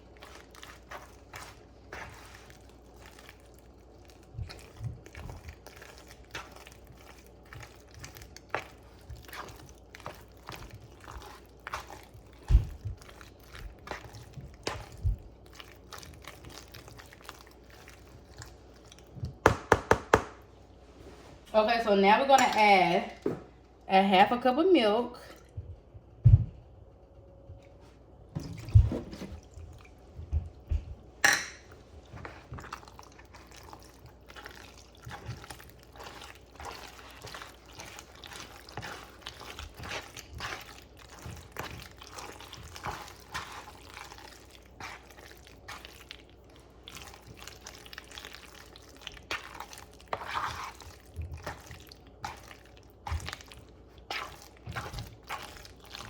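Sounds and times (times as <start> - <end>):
stirring wet mixture squelching: 0.0 - 26.2, 27.2 - 56.0.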